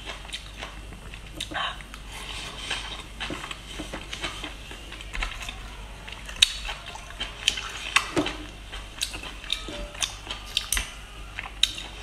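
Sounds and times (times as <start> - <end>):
wet chewing and mouth smacks: 0.0 - 2.1, 2.7 - 12.0.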